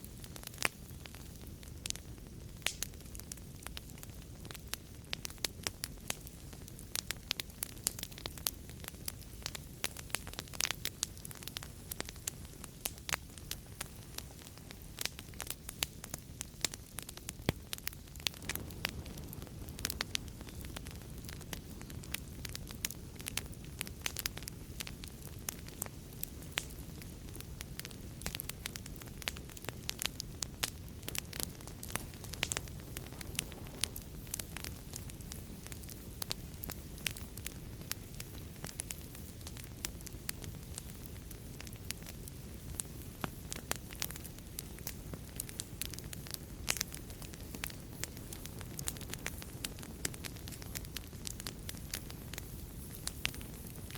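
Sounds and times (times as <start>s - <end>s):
fire crackling and popping: 0.0s - 53.9s
low rush of flames: 0.0s - 53.9s.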